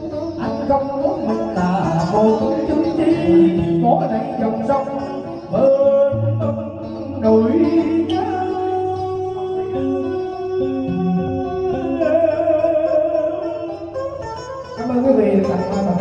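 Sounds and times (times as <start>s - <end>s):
person singing: 0.0s - 16.0s
plucked guitar melody: 0.0s - 16.0s.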